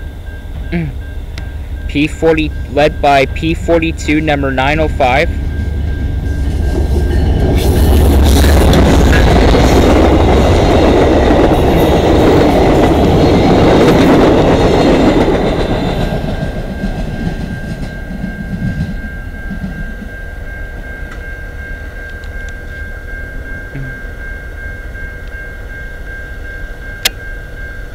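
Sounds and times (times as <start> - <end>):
train wheels on rails: 0.0 - 23.5
diesel train passing: 0.0 - 27.9.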